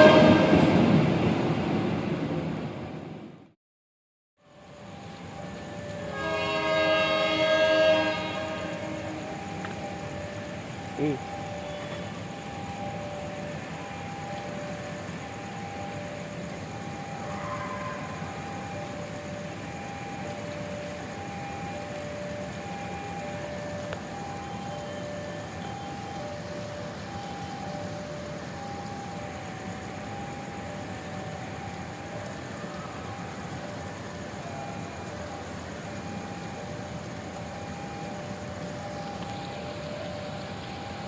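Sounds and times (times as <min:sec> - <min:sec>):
level crossing two-tone alarm: 0:04.8 - 0:41.0.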